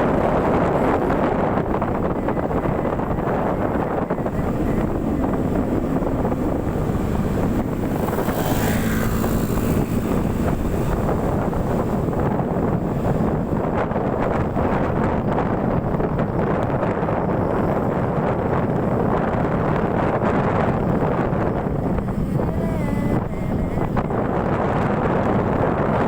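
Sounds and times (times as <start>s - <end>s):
moving vehicle road noise: 0.0s - 26.0s
wind rushing over microphone: 0.0s - 26.0s.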